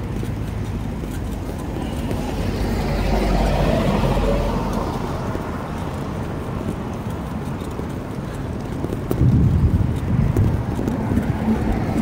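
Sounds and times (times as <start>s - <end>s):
bicycle road noise: 0.0s - 12.0s
wind rumble on microphone: 0.0s - 12.0s.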